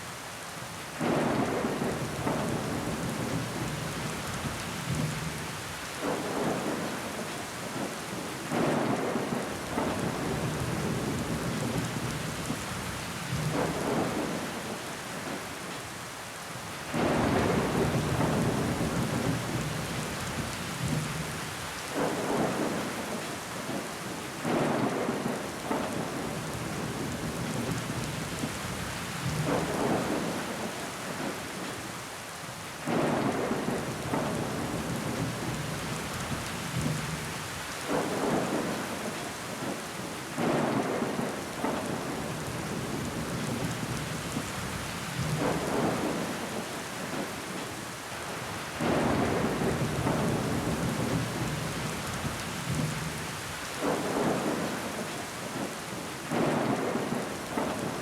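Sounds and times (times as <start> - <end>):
rain on window glass: 0.6 - 15.9, 16.8 - 58.0.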